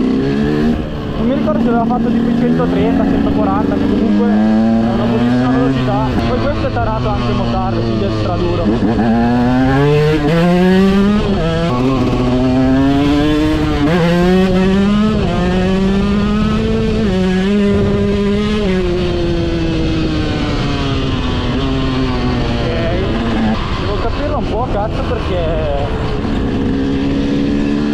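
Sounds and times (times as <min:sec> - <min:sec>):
two-stroke motorcycle engine revving: 0:00.0 - 0:27.9.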